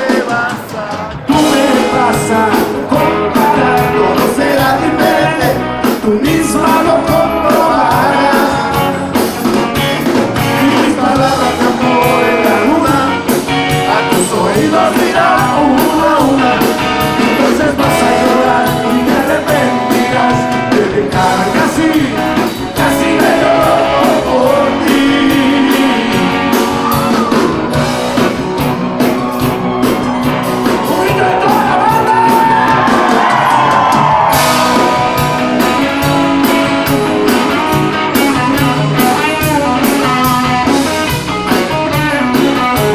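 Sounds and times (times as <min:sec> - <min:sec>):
sung lead vocals: 0:00.0 - 0:28.3, 0:28.9 - 0:42.9
electric guitar: 0:00.0 - 0:42.9
steady drum beat: 0:00.0 - 0:42.9.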